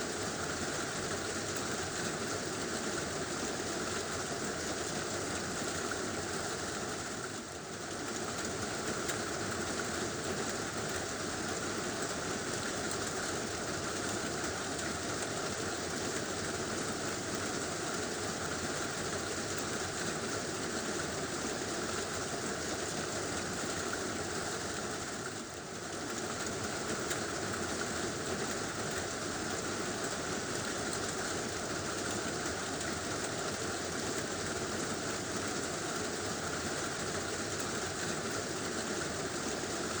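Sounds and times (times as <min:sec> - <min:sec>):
heavy rain on a tin roof: 0:00.0 - 0:40.0.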